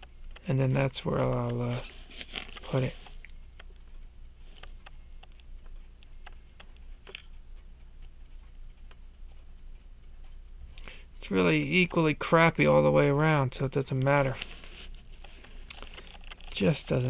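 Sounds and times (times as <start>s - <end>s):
small metallic clicks: 0.0s - 17.0s.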